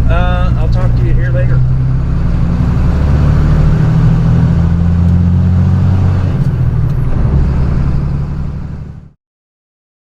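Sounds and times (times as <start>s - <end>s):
truck diesel engine droning: 0.0s - 9.2s.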